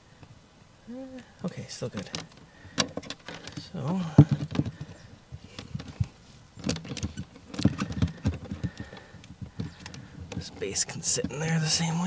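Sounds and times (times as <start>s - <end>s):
hard plastic clicking and scraping: 1.9s - 11.8s.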